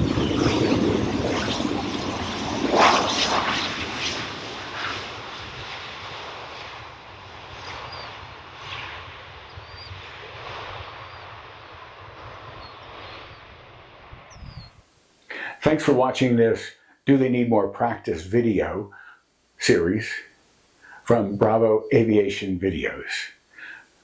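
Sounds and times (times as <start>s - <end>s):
jet engine noise: 0.0s - 16.3s, 18.1s - 24.0s.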